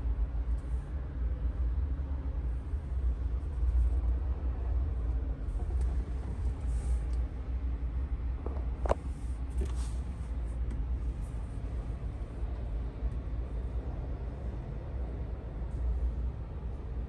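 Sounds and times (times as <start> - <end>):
low rumble inside car: 0.0 - 17.0.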